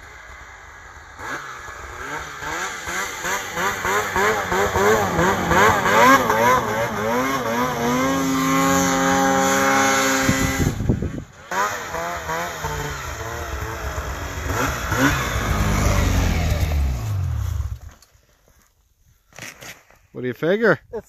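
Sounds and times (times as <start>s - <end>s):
snowmobile engine revving: 0.0s - 18.0s.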